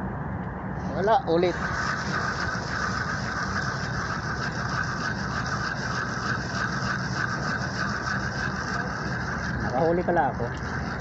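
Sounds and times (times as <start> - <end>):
constant low hum: 0.0 - 11.0
fishing reel whirring: 0.7 - 11.0.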